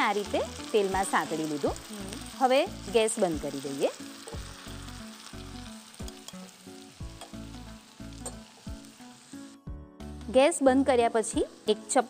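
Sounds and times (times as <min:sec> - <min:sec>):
garlic paste sizzling in hot oil: 0:00.0 - 0:12.0.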